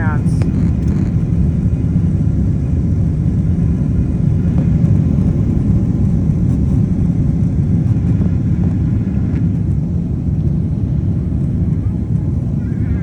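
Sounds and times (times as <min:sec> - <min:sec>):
jet engines deep rumble: 0:00.0 - 0:13.0.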